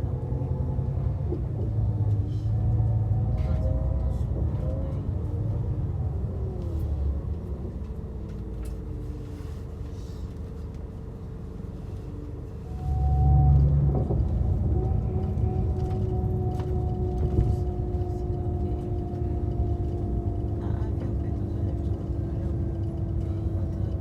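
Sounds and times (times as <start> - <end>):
bus engine rumble: 0.0 - 24.0
bus whine: 0.0 - 24.0.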